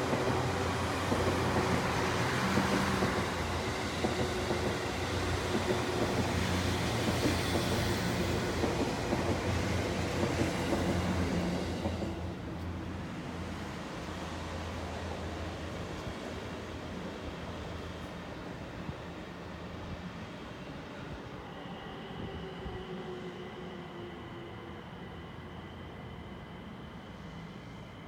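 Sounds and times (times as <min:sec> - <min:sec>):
train low hum: 0:00.0 - 0:28.0.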